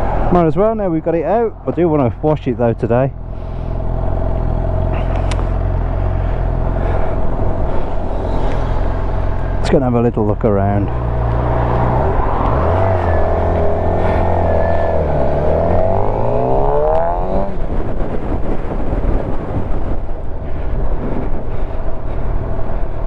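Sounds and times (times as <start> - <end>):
steady rushing noise: 0.0 - 23.0
motorcycle engine accelerating: 1.4 - 23.0.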